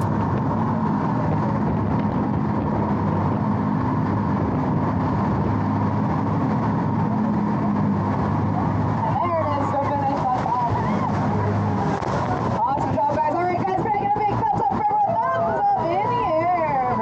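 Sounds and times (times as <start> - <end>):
jet boat engine running: 0.0 - 17.0.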